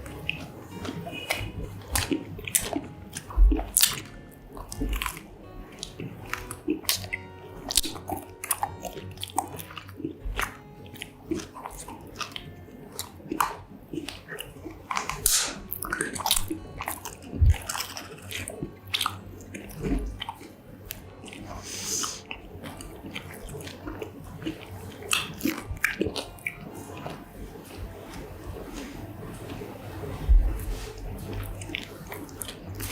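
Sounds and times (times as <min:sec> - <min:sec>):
crunchy food chewing: 0:00.0 - 0:32.9
wet mouth clicks: 0:00.2 - 0:27.2.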